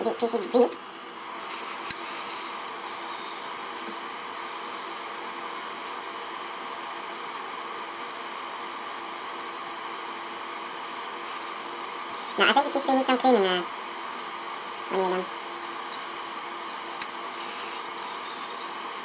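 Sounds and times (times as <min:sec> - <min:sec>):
heat gun blowing: 0:00.9 - 0:19.0.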